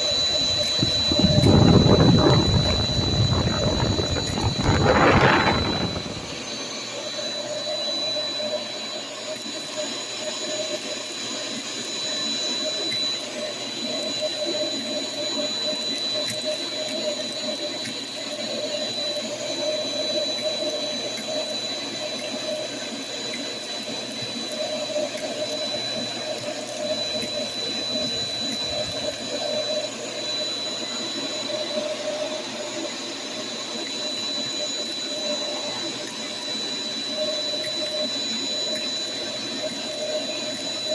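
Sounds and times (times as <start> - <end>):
shop vac whining: 0.0 - 40.9.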